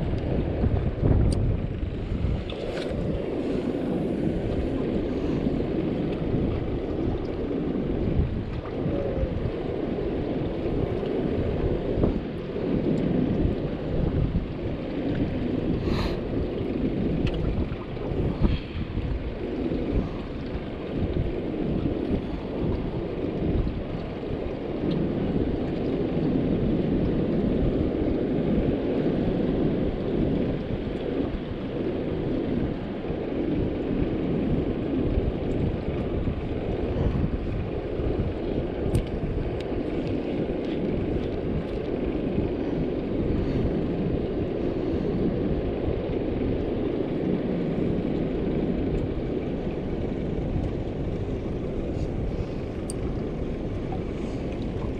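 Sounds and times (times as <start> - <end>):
water noise: 0.0 - 54.9
wind buffeting microphone: 0.0 - 54.9.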